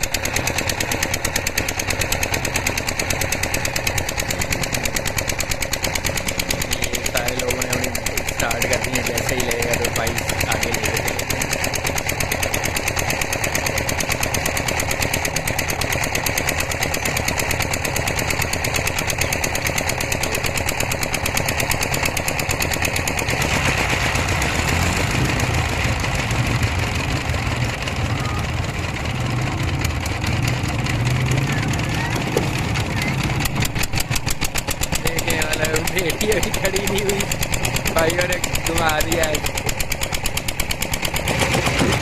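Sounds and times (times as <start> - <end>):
deep engine rumble: 0.0 - 42.0
motorcycle engines idling: 0.0 - 42.0.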